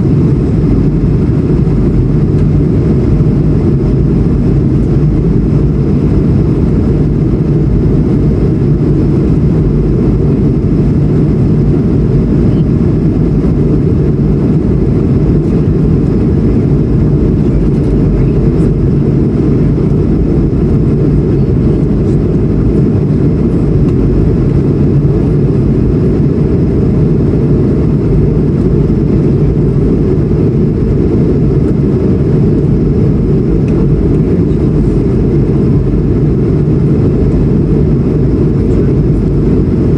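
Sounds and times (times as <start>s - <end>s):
jet cabin engine drone: 0.0s - 39.9s.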